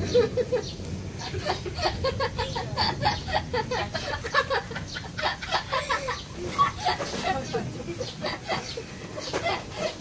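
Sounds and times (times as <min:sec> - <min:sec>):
young child giggling: 0:00.0 - 0:10.0.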